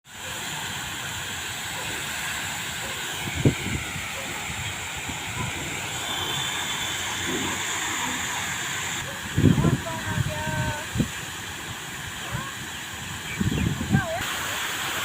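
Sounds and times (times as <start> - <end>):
waterfall rushing: 0.1 - 15.0.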